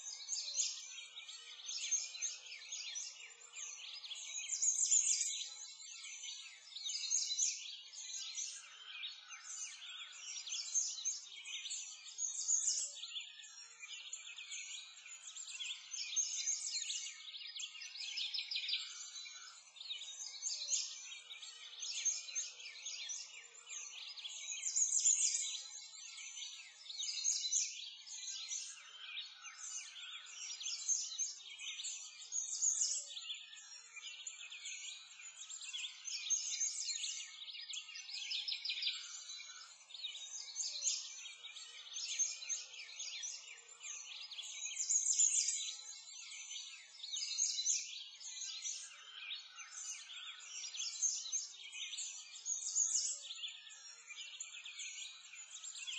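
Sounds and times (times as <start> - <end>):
songbirds chorus chirping and trilling: 0.0 - 55.9.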